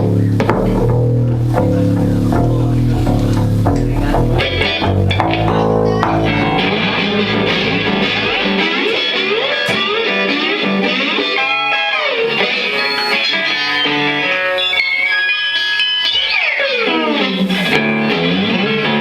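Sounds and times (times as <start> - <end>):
bass guitar: 0.0 - 19.0
electric guitar bending notes: 0.0 - 19.0
rock band playing: 0.0 - 19.0.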